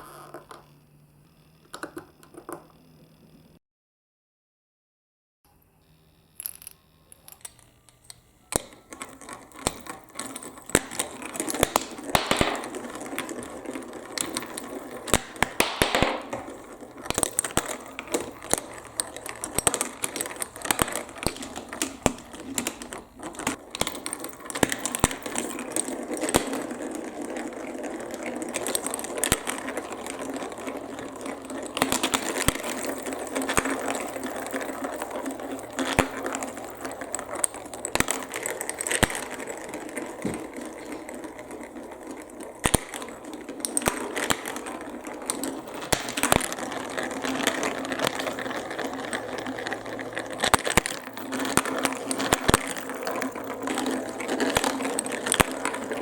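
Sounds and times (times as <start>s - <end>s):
marbles clacking on track: 6.4s - 56.0s.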